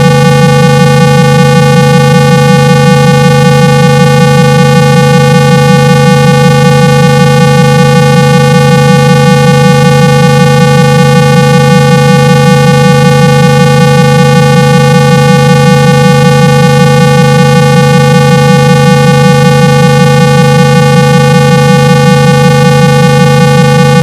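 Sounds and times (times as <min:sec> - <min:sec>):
buzzy electronic tone: 0:00.0 - 0:24.0.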